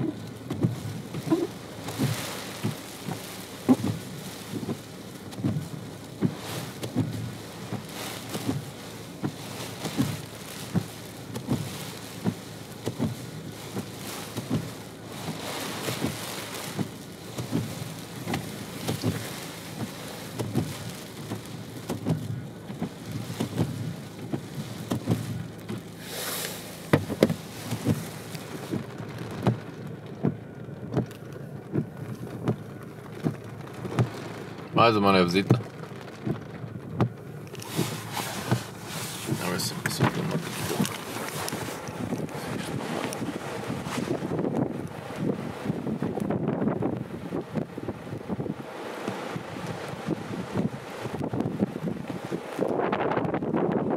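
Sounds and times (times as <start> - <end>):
sleet and hail on car roof: 0.0 - 53.7.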